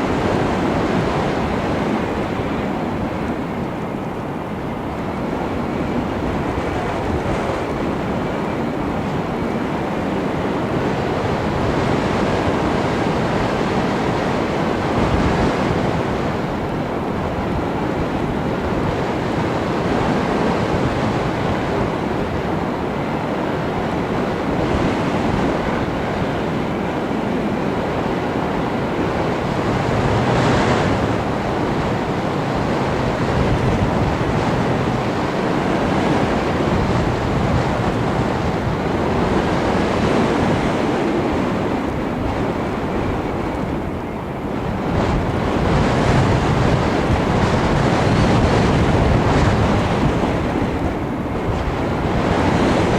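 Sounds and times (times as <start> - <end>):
motor and propeller whine: 0.0 - 52.9
wind rushing over microphone: 0.0 - 52.9.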